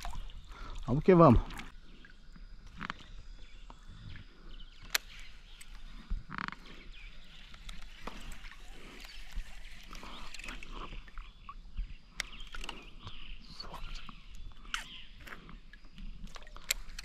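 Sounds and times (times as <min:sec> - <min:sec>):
small water splashes: 0:00.0 - 0:11.6, 0:12.2 - 0:17.0.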